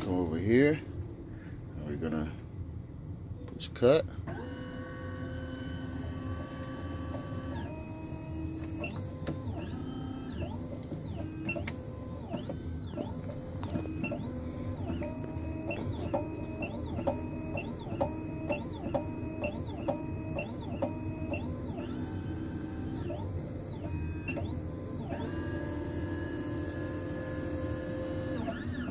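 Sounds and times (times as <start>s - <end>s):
key cutting machine motor whine: 4.3s - 28.9s.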